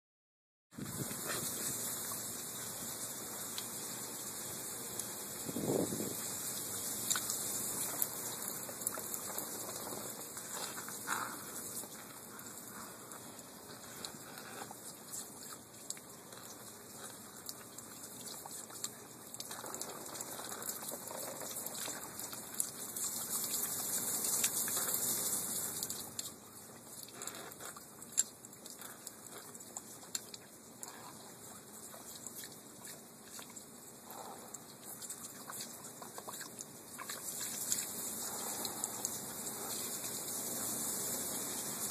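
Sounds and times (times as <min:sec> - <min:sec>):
puppies lapping water: 0:00.8 - 0:41.9
water trickling on wooden deck: 0:00.8 - 0:41.9.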